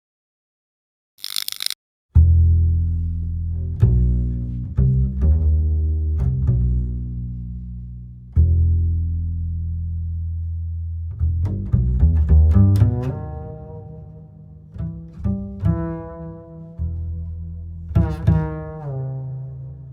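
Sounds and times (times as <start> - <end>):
low bowed strings music: 2.1 - 19.9.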